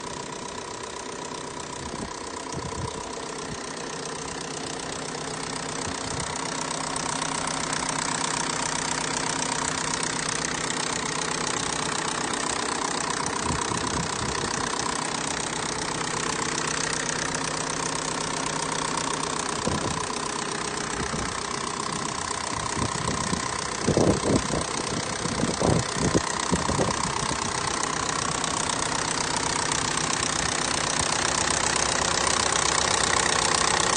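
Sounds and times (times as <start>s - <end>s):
car engine idling: 0.0s - 33.9s
odd engine noise: 0.0s - 33.9s.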